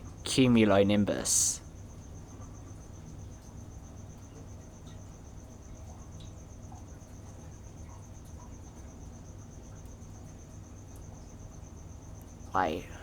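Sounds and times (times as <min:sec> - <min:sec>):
cricket chirping: 0:00.0 - 0:13.0
low steady hum: 0:00.0 - 0:13.0.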